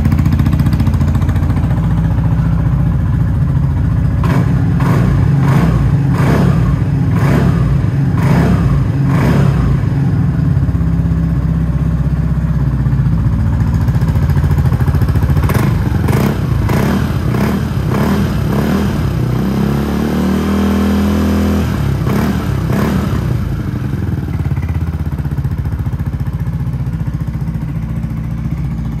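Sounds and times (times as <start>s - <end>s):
scooter engine idling and revving: 0.0s - 29.0s.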